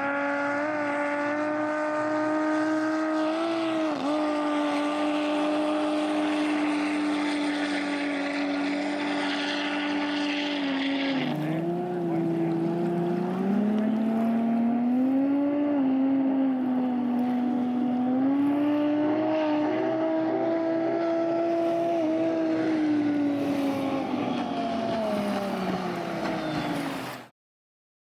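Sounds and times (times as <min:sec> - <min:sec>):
boat engine running under load: 0:00.0 - 0:27.3.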